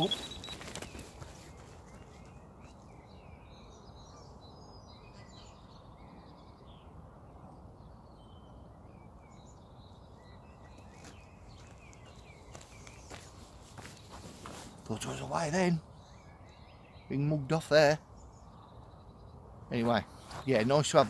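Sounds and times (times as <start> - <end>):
open air background noise: 0.0 - 21.0
small birds singing: 0.0 - 21.0.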